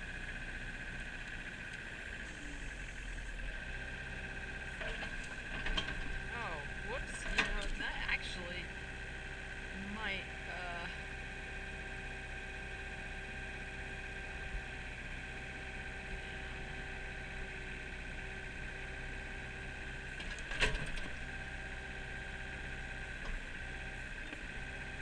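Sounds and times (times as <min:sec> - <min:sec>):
engine whine: 0:00.0 - 0:25.0
excavator diesel engine running: 0:00.0 - 0:25.0.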